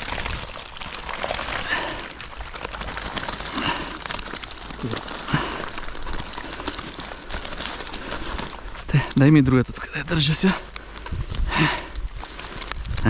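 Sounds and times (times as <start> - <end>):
clothing rustling and crinkling: 0.0 - 13.0.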